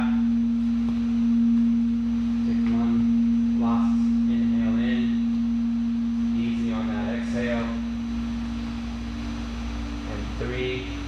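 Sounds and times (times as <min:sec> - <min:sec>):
singing bowl ringing: 0:00.0 - 0:11.0.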